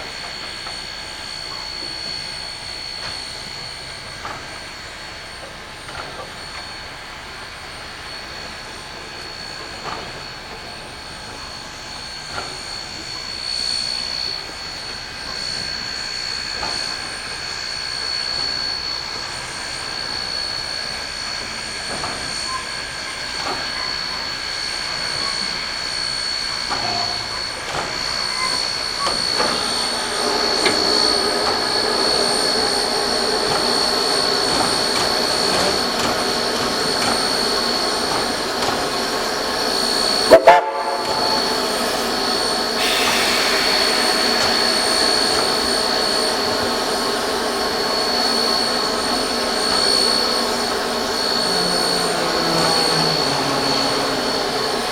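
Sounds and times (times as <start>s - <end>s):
steam train running: 0.0s - 54.9s.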